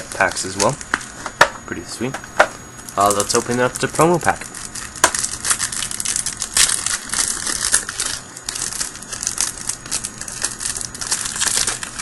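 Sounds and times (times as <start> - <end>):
foil wrapper crinkling: 0.0 - 1.2, 2.8 - 12.0.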